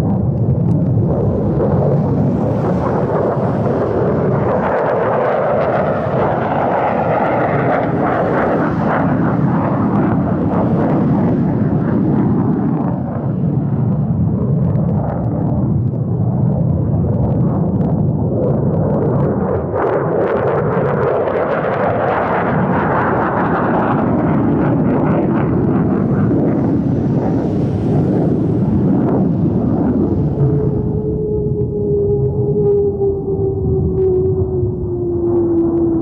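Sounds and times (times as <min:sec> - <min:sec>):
fighter jet engine: 0:00.0 - 0:36.0.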